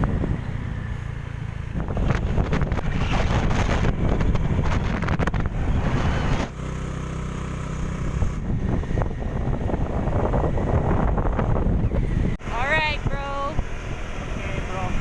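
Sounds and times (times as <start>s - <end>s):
wind buffeting microphone: 0.0s - 6.6s, 7.8s - 15.0s
motorbike engine hum: 0.0s - 15.0s.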